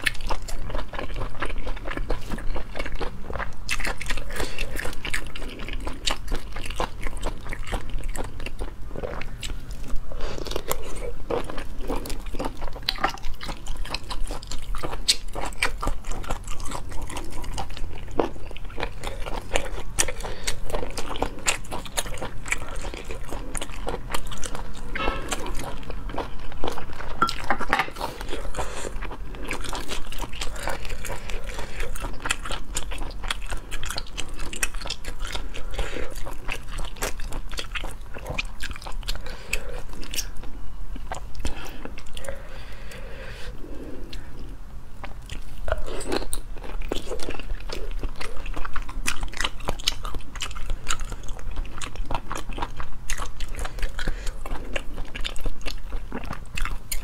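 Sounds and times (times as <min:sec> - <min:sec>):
close-miked chewing with clicks: 0:00.0 - 0:43.0, 0:44.0 - 0:57.0.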